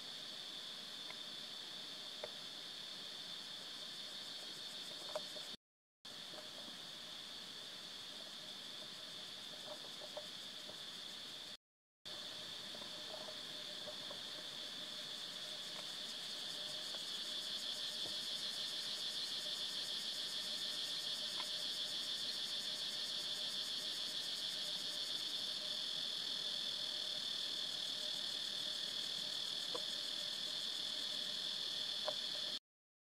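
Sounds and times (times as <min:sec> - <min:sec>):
insects chorus pulsing: 0:00.0 - 0:32.6.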